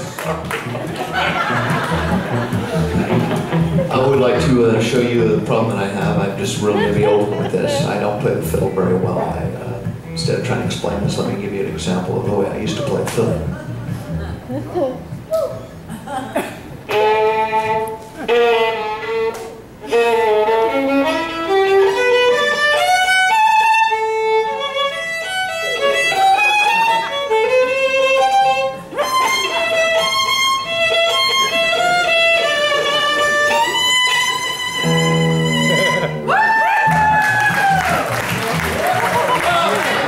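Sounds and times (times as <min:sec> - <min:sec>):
solo fiddle playing a tune: 0:00.0 - 0:15.2, 0:16.9 - 0:36.3.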